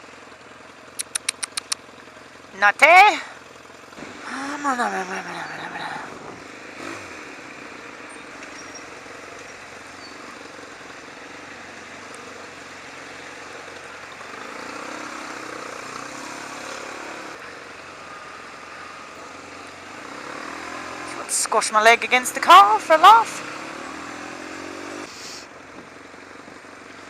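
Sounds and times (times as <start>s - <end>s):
motorcycle engine: 0.0s - 27.0s
wind and road noise: 0.0s - 27.0s.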